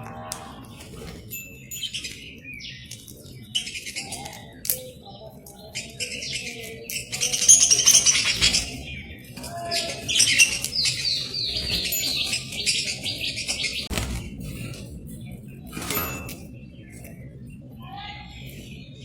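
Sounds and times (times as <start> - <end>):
budgies chattering and chirping: 0.0 - 19.0.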